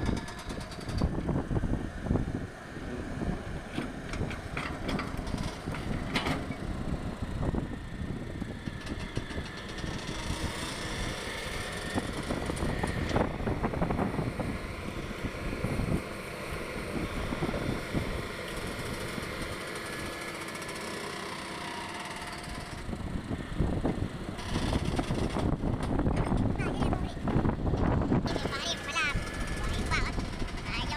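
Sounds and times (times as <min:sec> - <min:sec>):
diesel engines running: 0:00.0 - 0:30.9.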